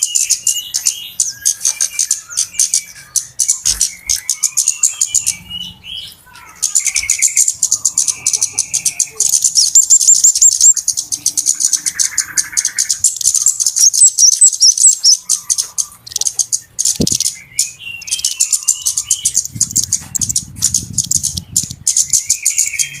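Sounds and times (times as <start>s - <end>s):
birds ticking and chirping: 0.0s - 23.0s.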